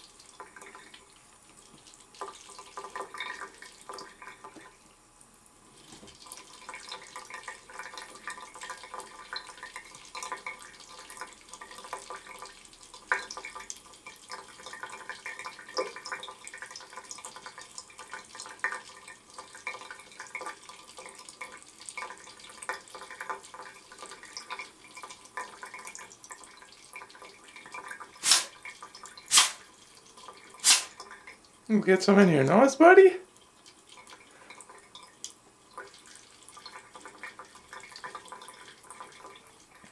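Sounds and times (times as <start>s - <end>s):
tap water running into sink: 0.0s - 4.7s, 5.9s - 31.4s, 33.6s - 39.5s.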